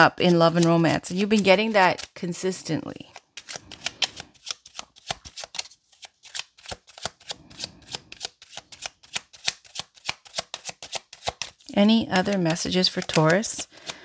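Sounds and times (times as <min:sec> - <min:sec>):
cards being shuffled: 0:00.0 - 0:02.2, 0:02.9 - 0:14.0.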